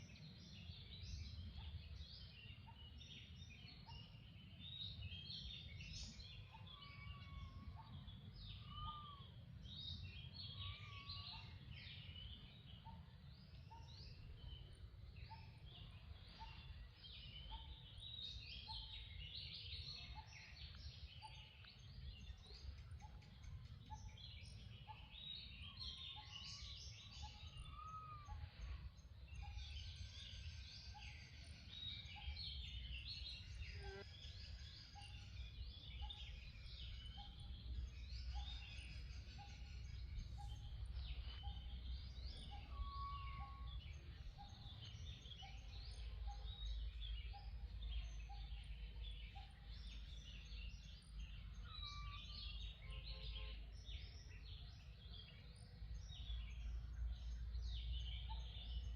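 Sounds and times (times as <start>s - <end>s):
birds chirping: 0.1s - 58.9s.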